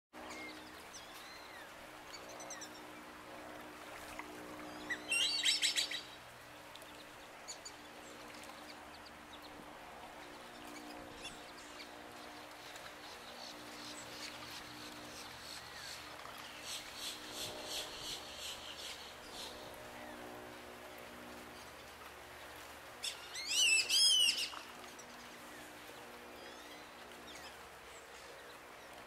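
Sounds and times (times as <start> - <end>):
steady low hum: 0.2 - 29.0.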